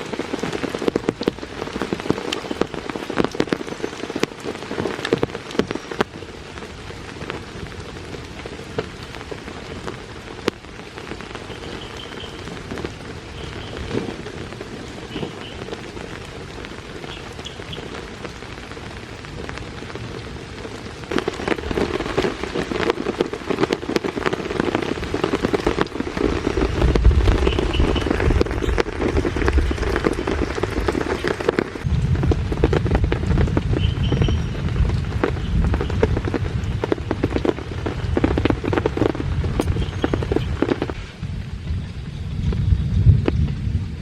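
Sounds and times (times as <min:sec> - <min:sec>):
distant thunder rumble: 0:00.0 - 0:44.0
heavy rain: 0:00.0 - 0:44.0.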